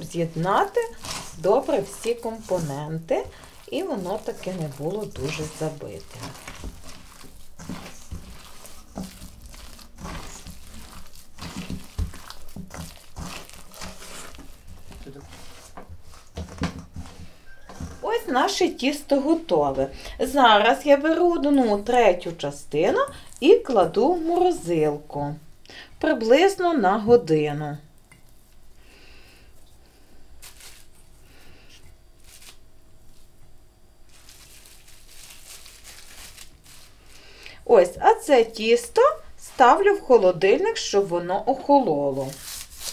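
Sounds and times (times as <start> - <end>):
wrapping crinkling and rustling: 0.0 - 24.8, 30.4 - 33.4, 34.0 - 42.9
hands kneading dough: 0.0 - 25.4, 29.5 - 42.9.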